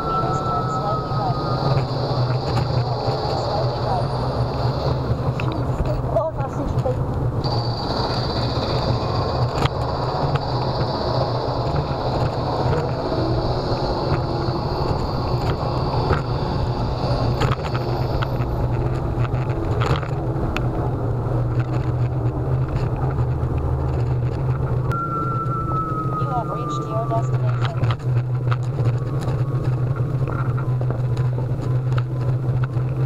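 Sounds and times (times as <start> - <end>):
high steady whine: 0.0 - 33.0
wheel rumble on pavement: 0.0 - 33.0.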